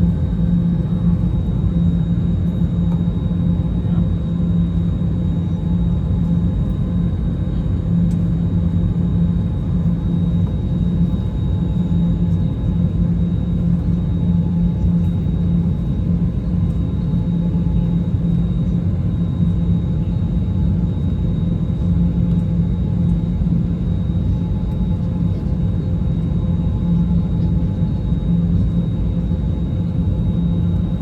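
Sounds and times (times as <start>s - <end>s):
jet cabin rumble: 0.0s - 31.0s.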